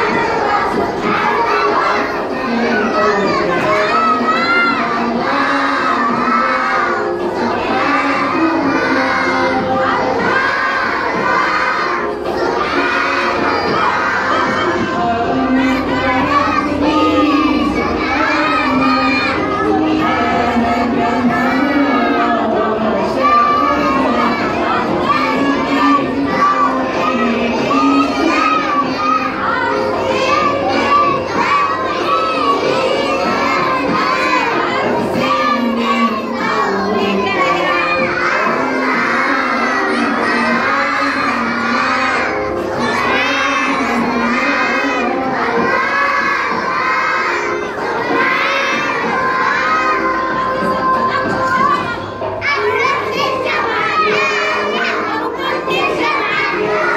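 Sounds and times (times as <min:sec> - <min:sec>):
children shouting in chorus: 0:00.0 - 0:56.9.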